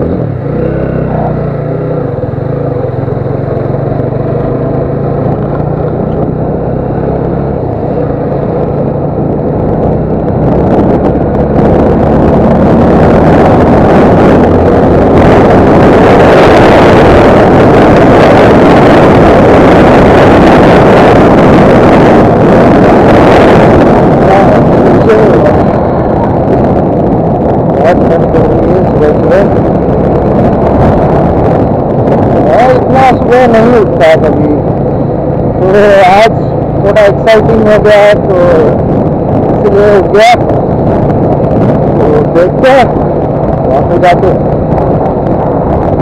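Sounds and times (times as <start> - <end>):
motorcycle engine running: 0.0 - 46.0
wind rushing over microphone: 0.0 - 46.0.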